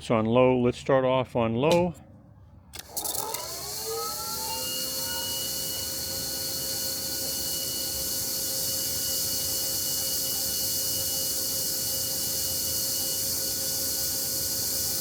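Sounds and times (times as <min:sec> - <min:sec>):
pressure washer motor whine: 0:02.8 - 0:15.0.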